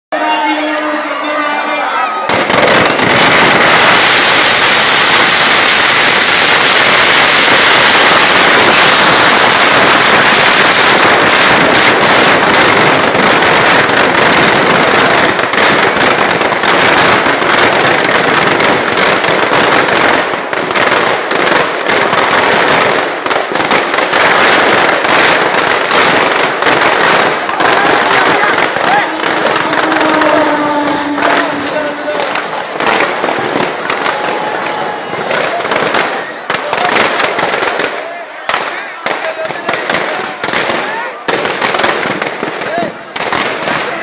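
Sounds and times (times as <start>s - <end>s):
firecrackers crackling and banging: 0.2s - 44.0s.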